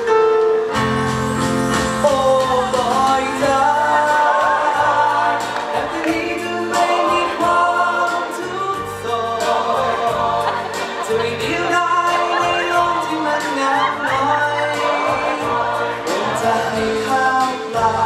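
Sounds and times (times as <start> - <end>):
instrumental backing: 0.0 - 18.0
voices singing together: 2.2 - 18.0.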